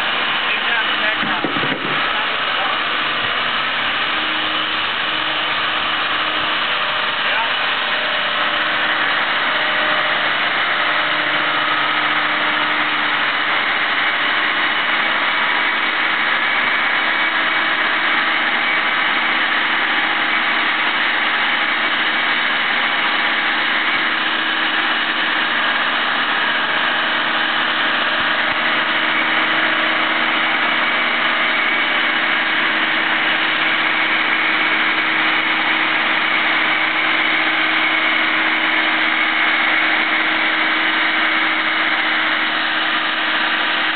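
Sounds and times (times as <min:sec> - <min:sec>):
crane engine running: 0:00.0 - 0:43.9.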